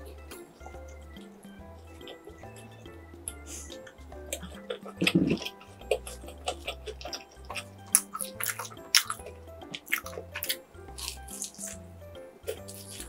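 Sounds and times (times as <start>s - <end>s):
background music with bass line: 0.0s - 13.0s
pastry crunching and chewing: 0.0s - 13.0s.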